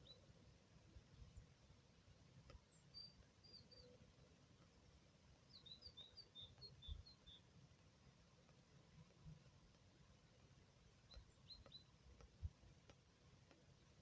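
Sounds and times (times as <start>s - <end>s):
faint songbird chirping: 0.0s - 14.0s.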